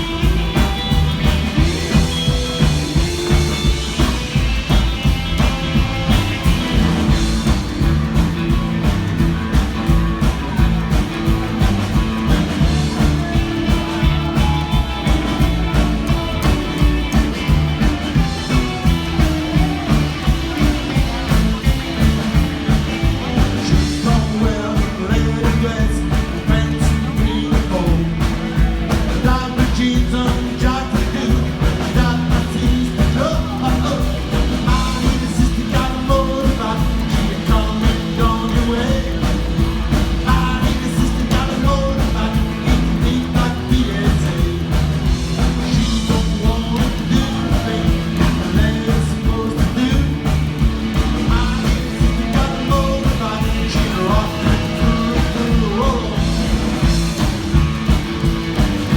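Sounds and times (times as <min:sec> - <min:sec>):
lead singer singing: 0:00.0 - 0:58.9
rock band playing: 0:00.0 - 0:58.9.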